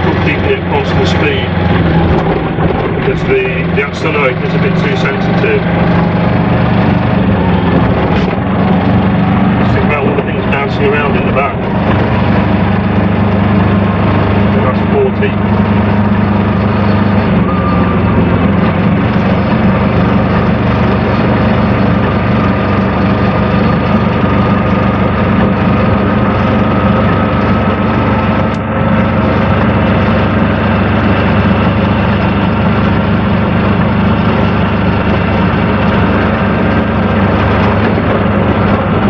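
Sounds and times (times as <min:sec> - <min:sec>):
diesel engine droning in cab: 0:00.0 - 0:39.0.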